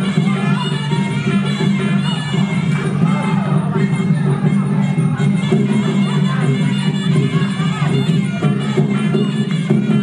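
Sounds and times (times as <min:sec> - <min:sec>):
pulsing drumbeat: 0:00.0 - 0:10.0
reed pipe melody: 0:00.0 - 0:10.0.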